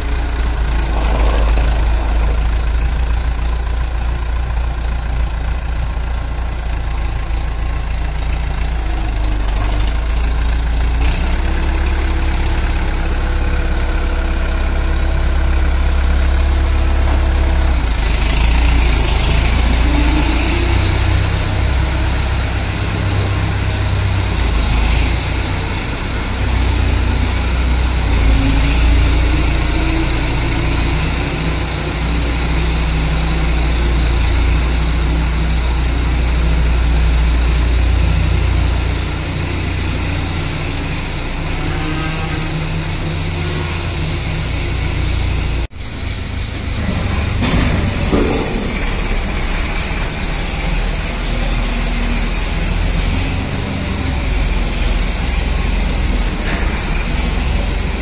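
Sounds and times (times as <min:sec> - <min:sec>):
heavy engine humming: 0:00.0 - 0:58.0.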